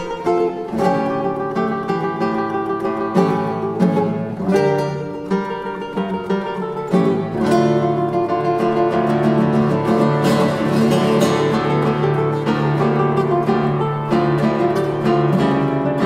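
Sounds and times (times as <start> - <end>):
classical guitar plucked notes: 0.0 - 16.0.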